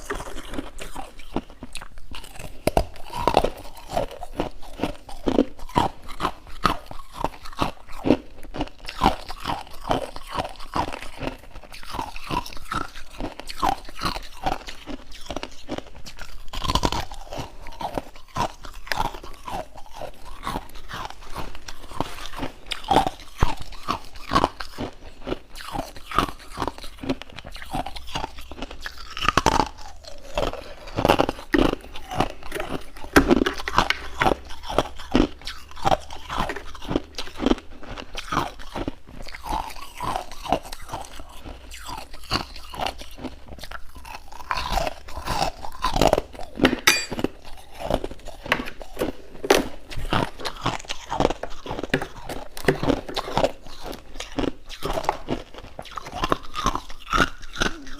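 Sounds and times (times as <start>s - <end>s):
chewing crunchy frost: 0.0s - 57.9s.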